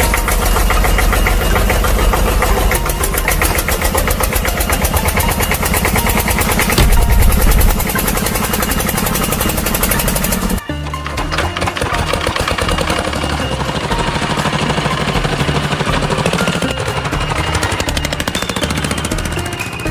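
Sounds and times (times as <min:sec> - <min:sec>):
engine running with pulsing beat: 0:00.0 - 0:19.9.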